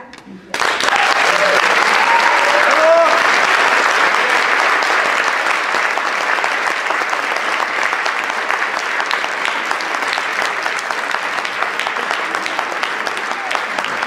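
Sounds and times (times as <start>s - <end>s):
audience applauding: 0.5s - 14.0s.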